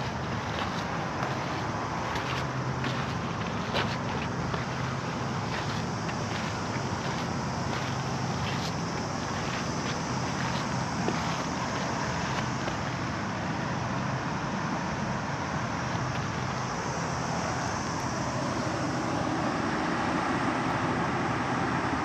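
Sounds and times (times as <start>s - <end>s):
seaside background hiss: 0.0s - 22.0s.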